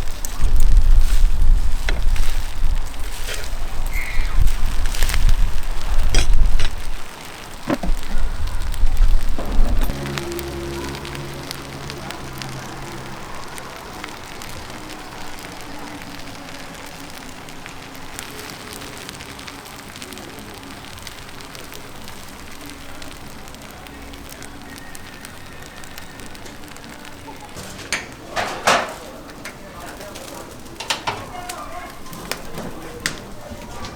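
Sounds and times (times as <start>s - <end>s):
chicken sizzling over fire: 0.0s - 33.9s
wood fire popping: 0.0s - 33.9s.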